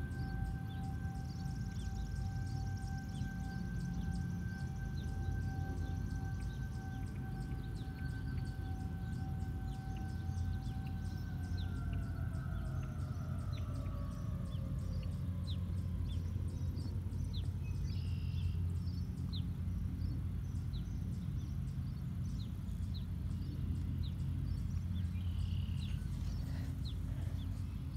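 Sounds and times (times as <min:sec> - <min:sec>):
distant warning siren winding down: 0:00.0 - 0:27.9
low background rumble: 0:00.0 - 0:27.9.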